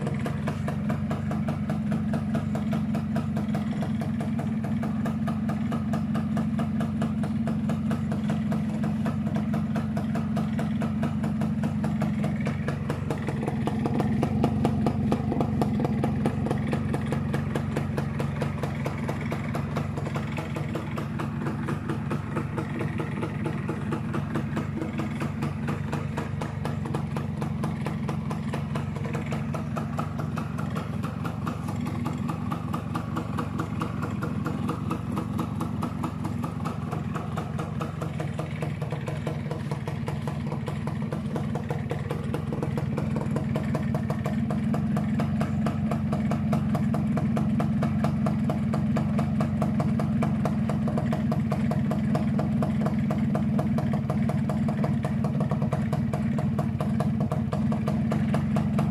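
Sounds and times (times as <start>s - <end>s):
motorcycle engine idling: 0.0s - 58.9s.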